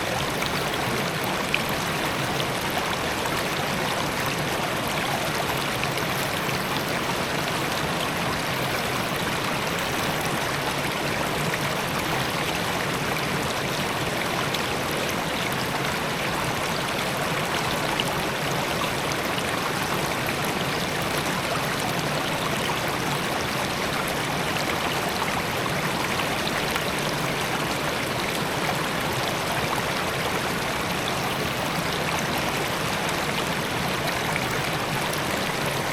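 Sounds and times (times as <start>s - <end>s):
water rushing over rocks: 0.0s - 35.9s.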